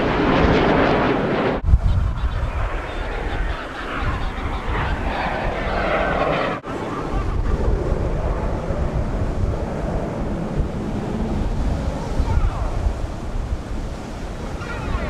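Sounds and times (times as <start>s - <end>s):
steady rush like surf: 0.0s - 15.0s
wind buffeting microphone: 0.0s - 15.0s.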